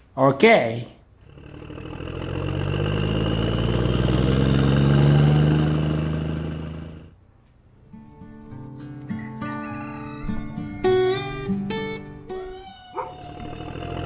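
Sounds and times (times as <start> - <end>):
engine hum: 1.1 - 14.0.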